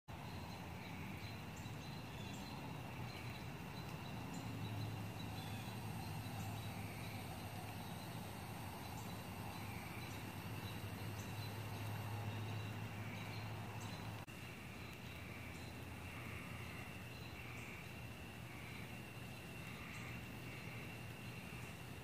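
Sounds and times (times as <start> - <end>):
insects chirping chorus: 0.1 - 22.0.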